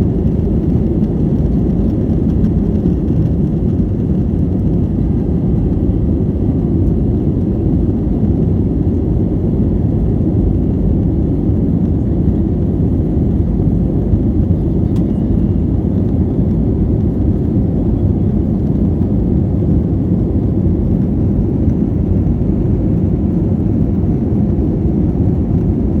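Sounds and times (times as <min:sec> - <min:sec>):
airplane engine rumble: 0:00.0 - 0:26.0.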